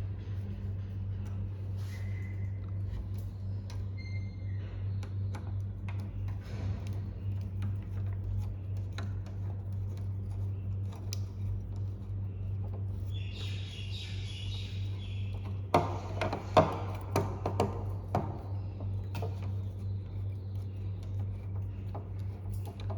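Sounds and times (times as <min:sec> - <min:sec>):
low electrical hum: 0:00.0 - 0:22.9.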